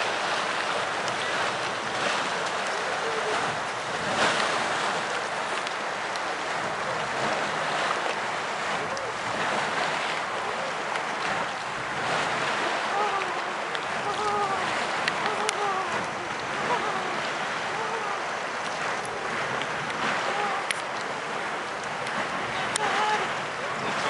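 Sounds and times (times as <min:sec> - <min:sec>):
waves lapping on rocky shore: 0:00.0 - 0:24.0
wind on microphone: 0:00.0 - 0:24.0.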